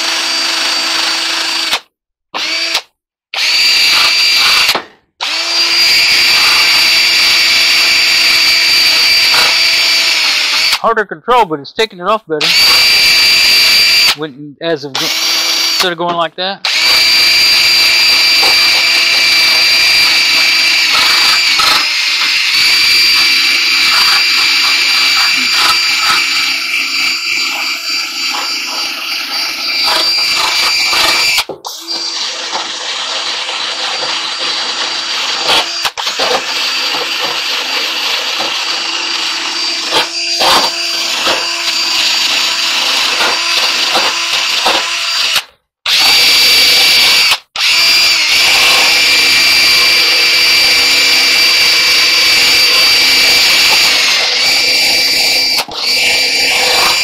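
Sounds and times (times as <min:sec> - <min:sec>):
drill spinning wire brush: 0:00.0 - 0:01.8, 0:02.4 - 0:10.8, 0:12.4 - 0:14.2, 0:15.0 - 0:15.9, 0:16.6 - 0:57.0.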